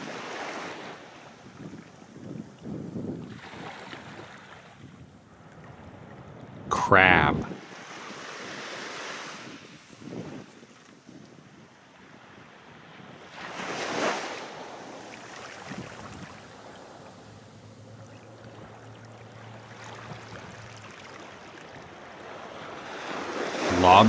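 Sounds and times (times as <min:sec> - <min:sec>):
ocean waves washing: 0:03.2 - 0:10.5, 0:12.0 - 0:24.0.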